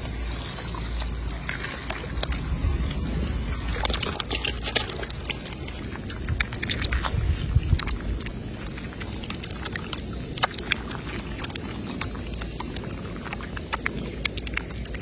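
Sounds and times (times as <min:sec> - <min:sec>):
low rumble: 0:00.0 - 0:15.0
wet crackles and small splashes: 0:00.0 - 0:15.0.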